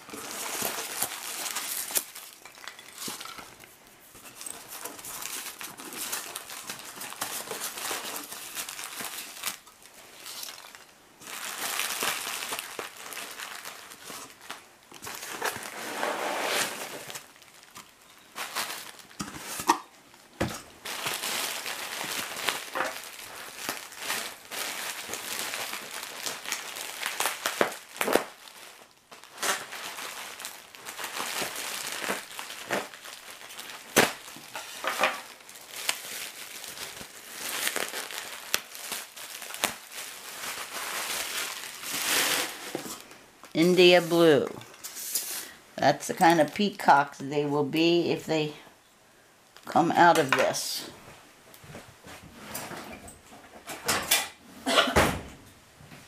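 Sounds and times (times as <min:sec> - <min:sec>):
hands rustling packing material: 0:00.0 - 0:47.1.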